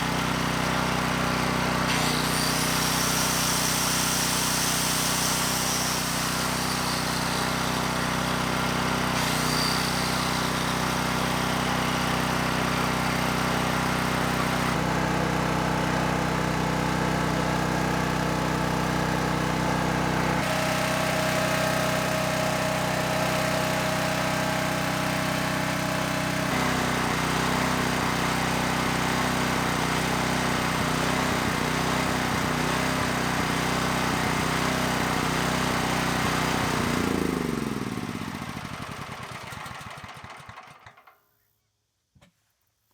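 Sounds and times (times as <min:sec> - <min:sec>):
generator engine running: 0:00.0 - 0:41.1.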